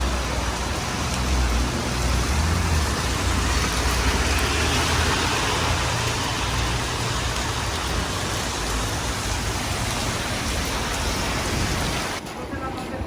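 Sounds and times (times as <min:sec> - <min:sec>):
heavy rain hissing: 0:00.0 - 0:12.2.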